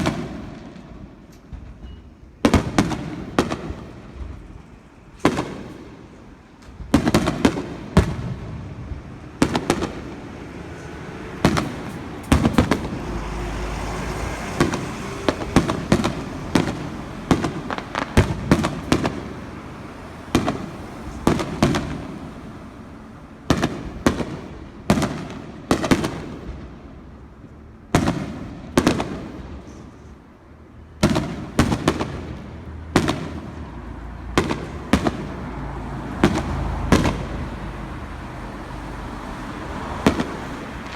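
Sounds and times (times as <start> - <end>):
fireworks booming: 0.0 - 40.9.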